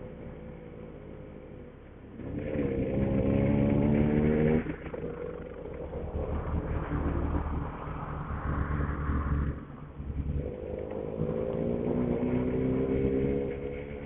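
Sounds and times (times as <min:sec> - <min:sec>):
road and wind noise: 0:00.0 - 0:14.0
motorcycle engine revving: 0:02.1 - 0:14.0.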